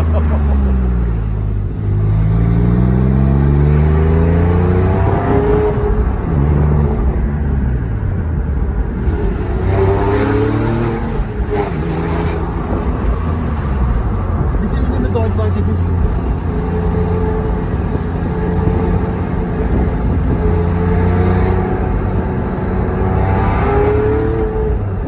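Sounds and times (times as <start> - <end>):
car engine accelerating through gears: 0.0 - 25.0.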